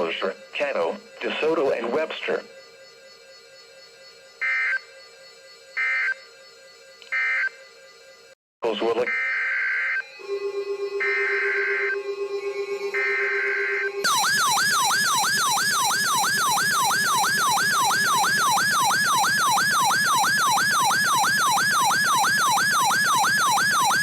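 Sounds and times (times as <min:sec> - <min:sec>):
whooping electronic siren alert: 0:00.0 - 0:24.0.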